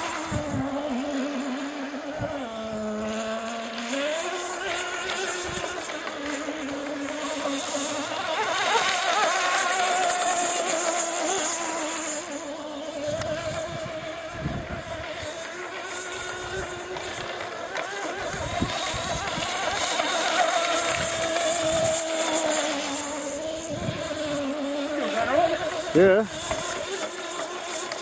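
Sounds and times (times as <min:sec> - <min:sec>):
model boat engine buzzing: 0:00.0 - 0:28.0.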